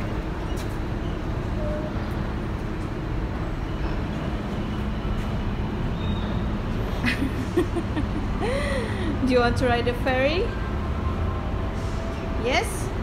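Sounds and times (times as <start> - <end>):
engine-like hum: 0.0 - 13.0.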